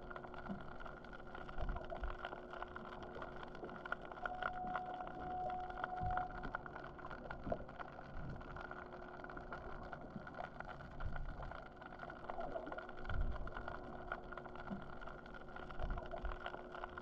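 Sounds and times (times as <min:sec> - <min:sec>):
faint crackles: 0:00.0 - 0:17.0
muffled underwater hum: 0:00.0 - 0:17.0.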